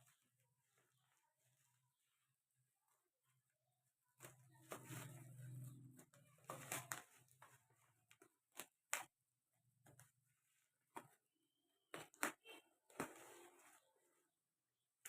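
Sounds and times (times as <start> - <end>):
rustling handling noise: 0.0 - 14.5.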